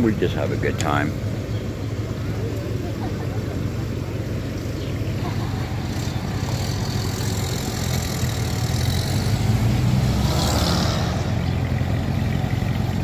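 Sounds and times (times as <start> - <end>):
jeep engine driving past: 0.0 - 13.0.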